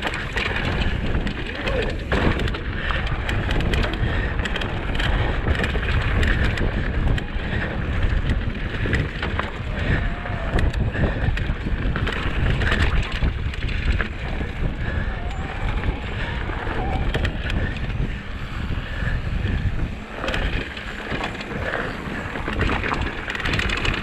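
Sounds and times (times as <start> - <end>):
bike rattling and knocking: 0.0 - 24.0
tyres rolling on dirt: 0.0 - 24.0
wind on microphone: 0.0 - 24.0.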